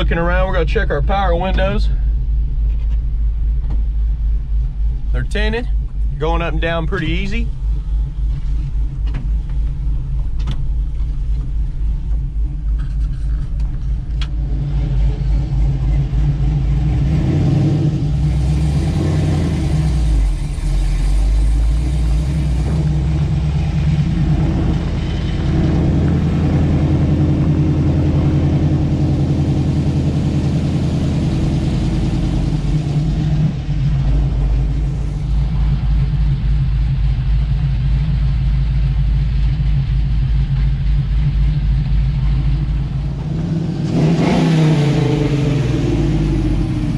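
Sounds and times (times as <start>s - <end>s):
truck engine heard from cab: 0.0s - 46.9s.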